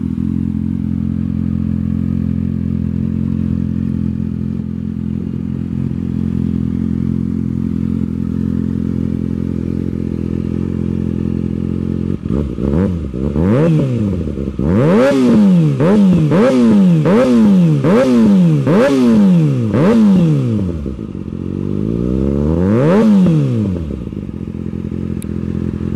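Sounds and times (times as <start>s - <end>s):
motorcycle engine idling: 0.0s - 25.9s
motorcycle engine revving: 0.0s - 25.9s.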